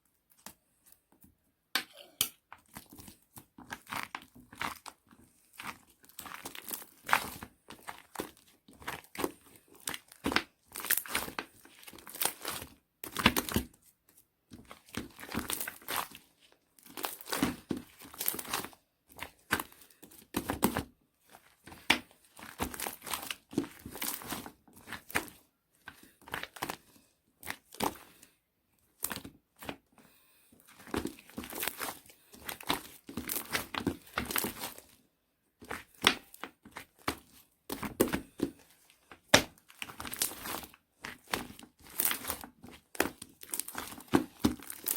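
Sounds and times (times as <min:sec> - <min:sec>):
crinkling and rustling: 0:02.5 - 0:44.9.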